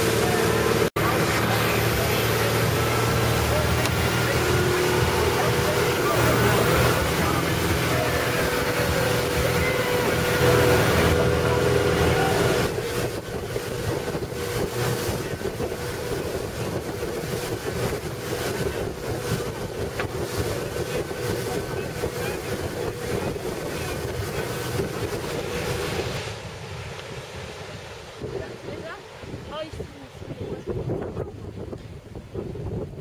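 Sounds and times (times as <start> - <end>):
boat engine hum: 0.0 - 33.0
rushing water: 0.0 - 33.0
wind buffeting microphone: 0.0 - 33.0.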